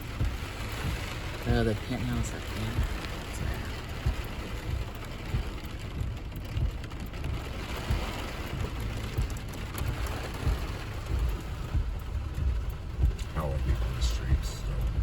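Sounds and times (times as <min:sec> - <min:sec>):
rain on a car: 0:00.0 - 0:15.0
road rumble: 0:00.0 - 0:15.0
tyres hissing on wet street: 0:00.0 - 0:15.0.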